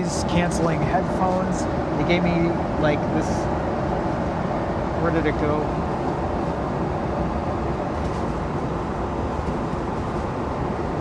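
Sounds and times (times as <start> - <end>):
jet airliner cabin noise: 0.0 - 11.0.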